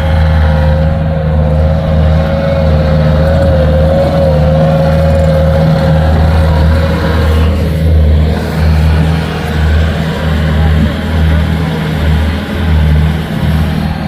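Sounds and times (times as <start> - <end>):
engine running steadily: 0.0 - 14.0
high whine: 0.0 - 14.0.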